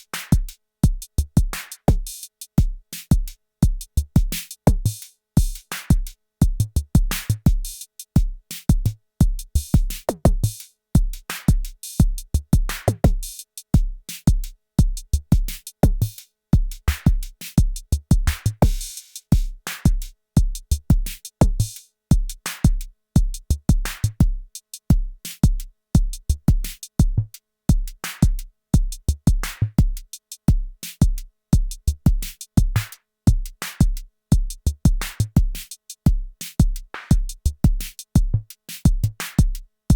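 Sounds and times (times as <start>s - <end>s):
snare and hi-hat hits: 0.0s - 39.9s
kick drum: 0.3s - 39.7s.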